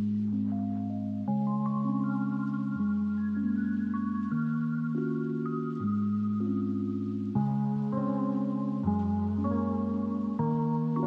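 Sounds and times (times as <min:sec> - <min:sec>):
mallet-like background music: 0:00.0 - 0:11.0.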